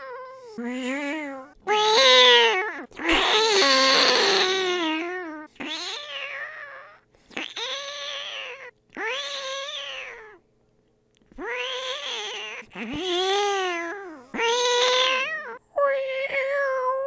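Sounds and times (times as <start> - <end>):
person imitating cat meows: 0.0 - 10.4, 11.4 - 17.0.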